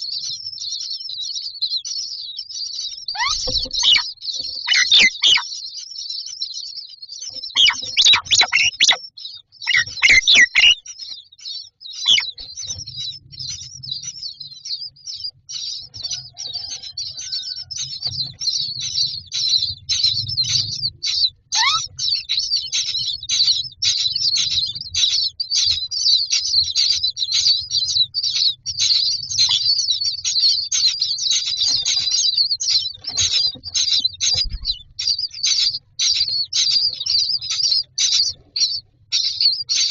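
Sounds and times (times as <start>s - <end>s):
harsh bird calls: 0.0s - 39.9s
nestlings chirping: 0.0s - 39.9s.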